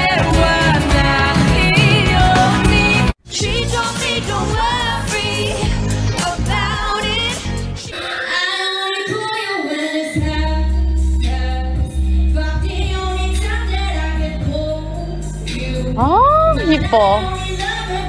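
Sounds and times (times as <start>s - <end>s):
backing music with bass: 0.0s - 7.8s, 10.8s - 18.0s
woman singing pop melody: 0.0s - 18.0s.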